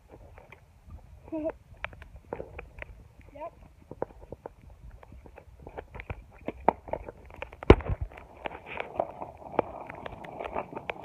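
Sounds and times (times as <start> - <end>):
crackling popping clicks: 0.0 - 11.0.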